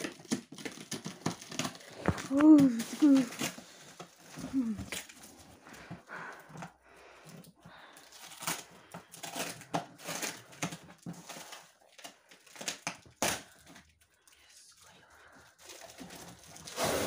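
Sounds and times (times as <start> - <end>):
wrapping material crinkling: 0.0 - 6.6, 7.8 - 14.4, 15.1 - 17.0.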